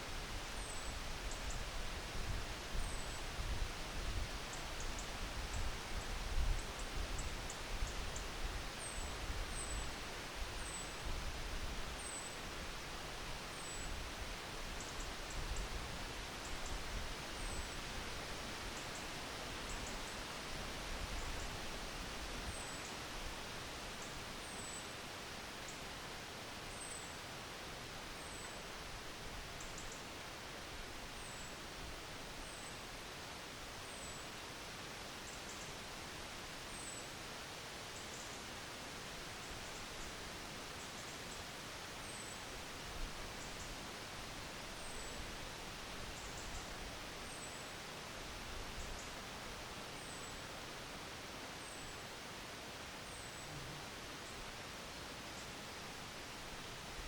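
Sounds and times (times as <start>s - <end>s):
wind rustling trees: 0.0s - 57.0s.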